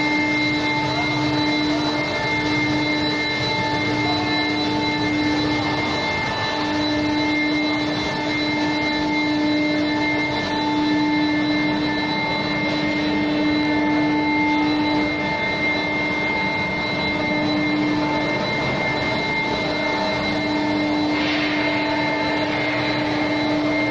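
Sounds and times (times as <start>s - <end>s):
humming and whining tones: 0.0s - 23.9s
machinery noise: 0.0s - 23.9s.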